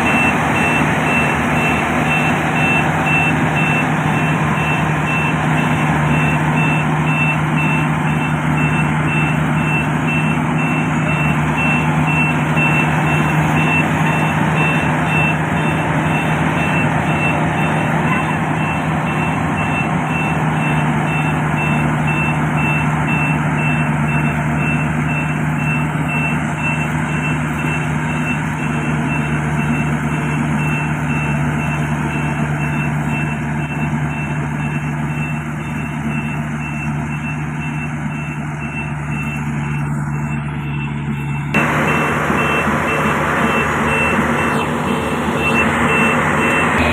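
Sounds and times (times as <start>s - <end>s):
combine harvester running: 0.0s - 46.9s
high-pitched warning beep: 0.0s - 46.9s.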